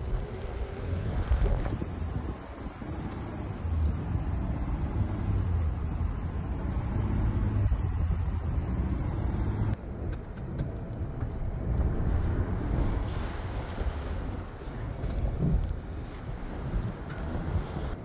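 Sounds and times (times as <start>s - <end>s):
truck engine rumble: 0.0s - 18.0s
tyres working through snow: 0.0s - 18.0s.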